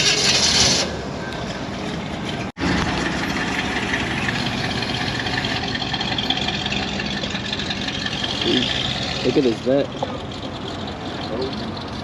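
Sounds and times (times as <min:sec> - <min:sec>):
outdoor background noise: 0:00.0 - 0:12.0
car engine idling: 0:01.0 - 0:12.0.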